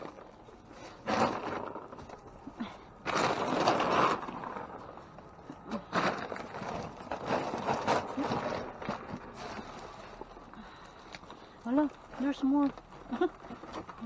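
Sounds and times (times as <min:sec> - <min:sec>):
plastic bags rustling: 0:00.0 - 0:14.0
things scraping: 0:00.0 - 0:14.0.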